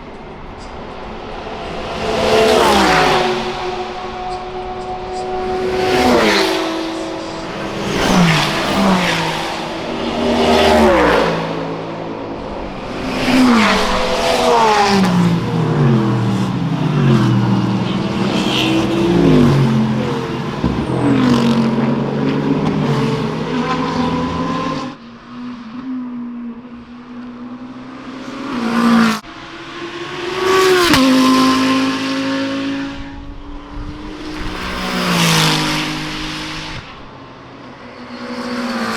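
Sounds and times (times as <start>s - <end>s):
race cars passing by: 0.0s - 38.9s.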